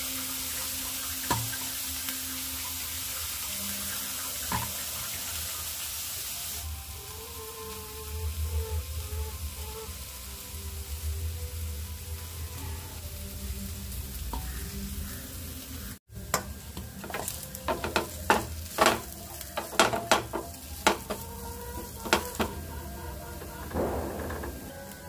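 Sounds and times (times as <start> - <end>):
onions frying in oil: 0.0 - 25.0.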